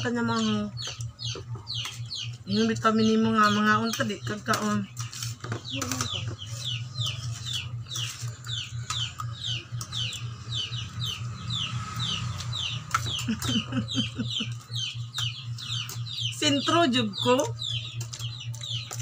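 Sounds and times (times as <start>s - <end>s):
bird peeping: 0.0s - 19.0s
low steady hum: 0.0s - 19.0s.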